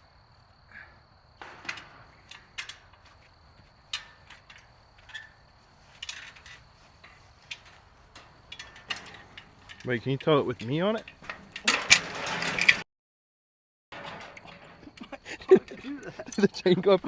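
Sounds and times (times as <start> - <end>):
light mechanical clicks and clanks: 1.4 - 12.8, 14.0 - 17.0.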